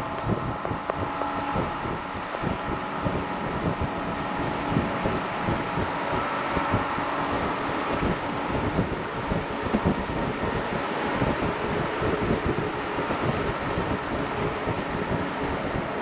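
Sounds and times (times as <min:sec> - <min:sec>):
train running noise: 0:00.0 - 0:16.0
wind buffeting microphone: 0:00.0 - 0:16.0.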